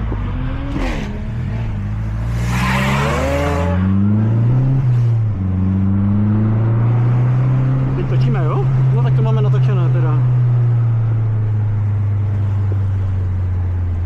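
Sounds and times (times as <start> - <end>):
car engine accelerating hard: 0.0 - 13.1.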